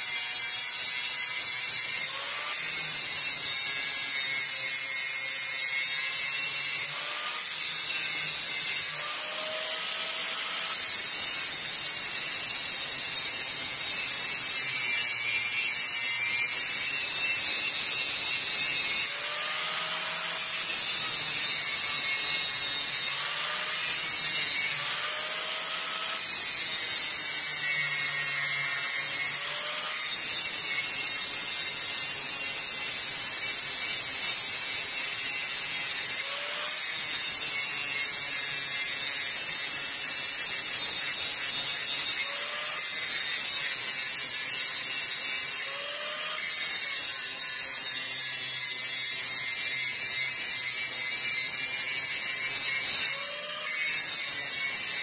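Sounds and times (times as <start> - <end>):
angle grinder grinding steel: 0.0 - 55.0.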